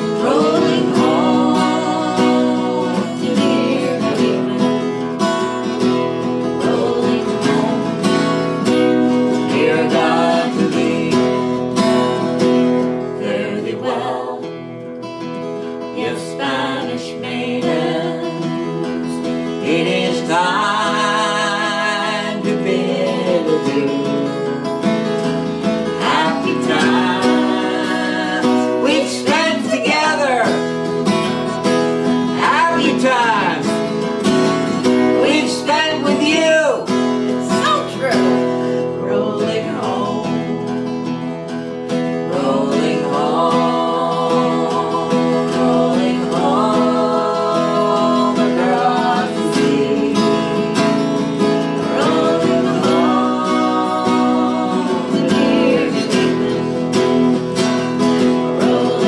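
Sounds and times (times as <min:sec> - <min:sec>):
acoustic guitar: 0:00.0 - 0:59.0
person singing with vibrato: 0:00.0 - 0:59.0.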